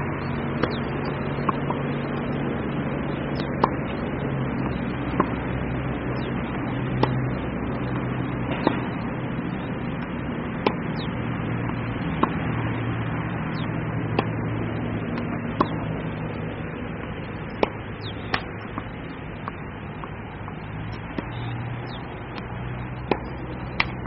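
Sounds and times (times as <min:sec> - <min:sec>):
steady low hum: 0:00.0 - 0:24.0
racket hitting tennis ball: 0:00.5 - 0:04.0, 0:04.6 - 0:12.5, 0:13.4 - 0:20.3, 0:20.9 - 0:24.0.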